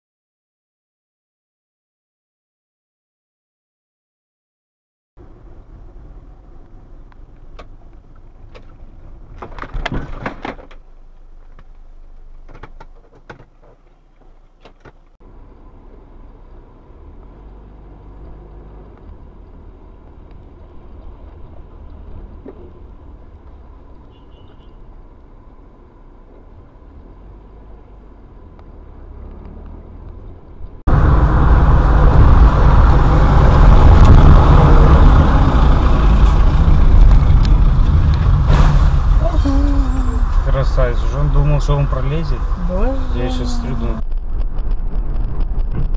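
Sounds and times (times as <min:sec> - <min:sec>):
car driving rumble: 0:05.2 - 0:45.9.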